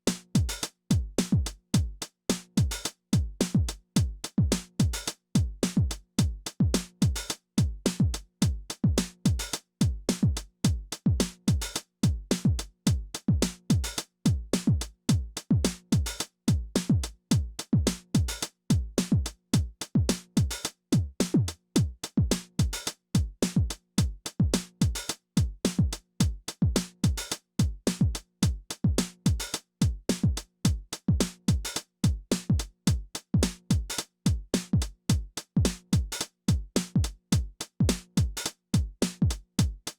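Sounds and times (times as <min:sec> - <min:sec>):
drum machine kick drum: 0:00.0 - 0:39.9
hi-hat and percussion hits: 0:00.1 - 0:39.9.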